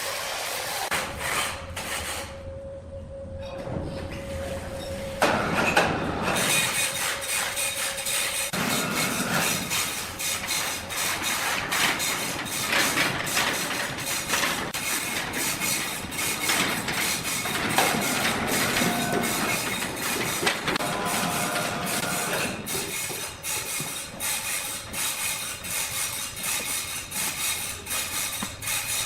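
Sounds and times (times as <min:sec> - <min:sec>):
sawmill machinery clattering: 0:05.2 - 0:29.0.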